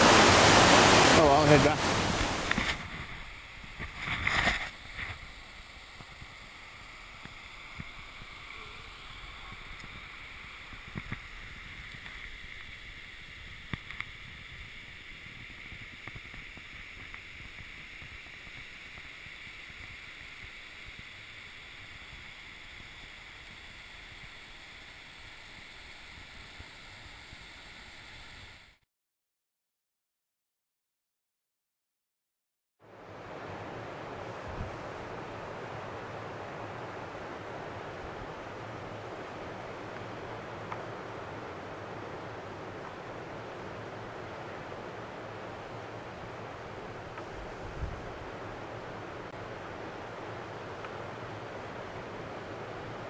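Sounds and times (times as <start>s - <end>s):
river rushing over rapids: 0.0s - 28.6s, 32.9s - 53.0s.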